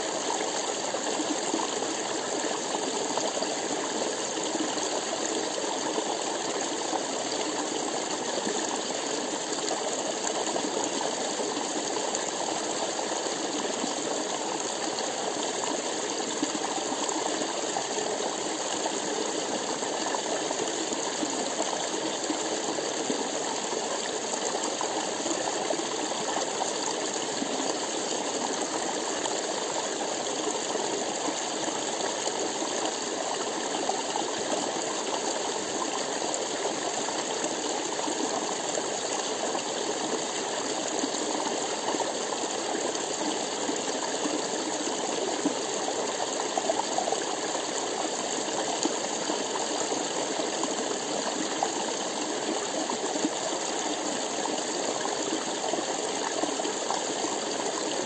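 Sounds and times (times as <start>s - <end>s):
stream splashing over rocks: 0.0s - 58.0s.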